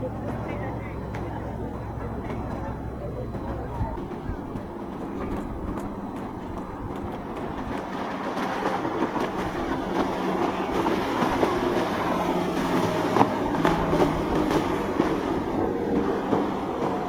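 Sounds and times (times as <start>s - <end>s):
boat engines droning: 0.0s - 17.0s.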